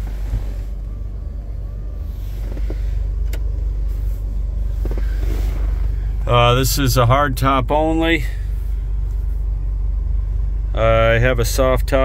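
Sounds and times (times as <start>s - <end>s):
engine idling inside cab: 0.0s - 12.0s.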